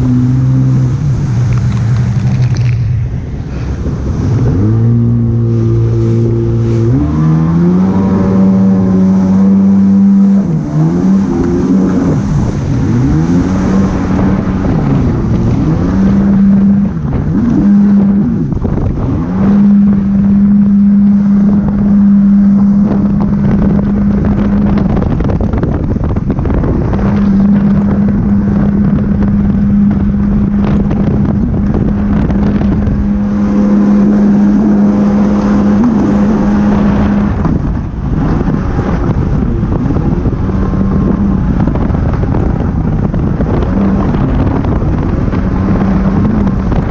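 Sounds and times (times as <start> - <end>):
jet ski engine running: 0.0 - 46.9
water rushing: 0.0 - 46.9
wind on microphone: 0.0 - 46.9.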